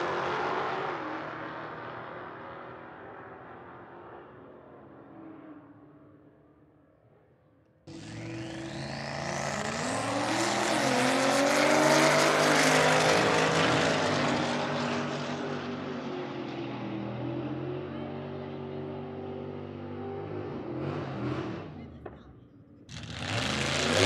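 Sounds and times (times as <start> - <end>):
race car accelerating: 0.0 - 6.3, 7.9 - 22.2, 22.8 - 24.0.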